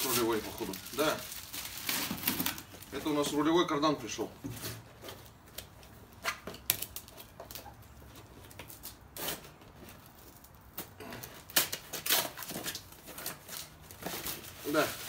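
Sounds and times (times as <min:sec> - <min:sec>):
packaging rustling and crinkling: 0:00.0 - 0:03.5, 0:04.6 - 0:15.0.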